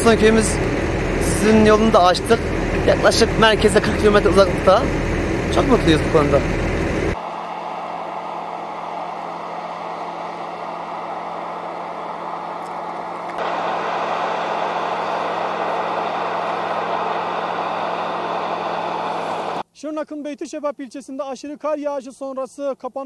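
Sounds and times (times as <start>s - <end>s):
bulldozer diesel engine running: 0.0s - 19.6s.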